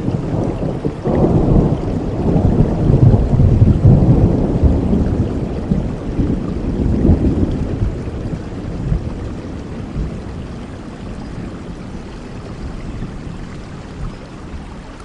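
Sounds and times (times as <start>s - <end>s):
thunder rumble: 0.0s - 14.6s
steady rain: 0.0s - 15.0s.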